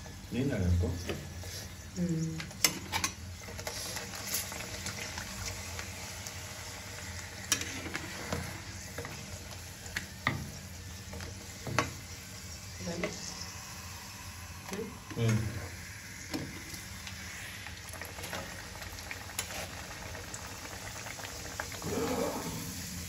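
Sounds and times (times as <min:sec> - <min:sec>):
deep-frying sizzle in oil: 0:00.0 - 0:23.0.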